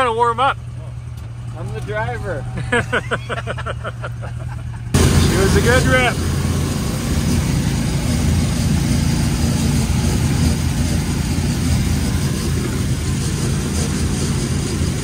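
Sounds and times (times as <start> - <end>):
ride noise: 0.0 - 15.0
vehicle engine drone: 0.0 - 15.0.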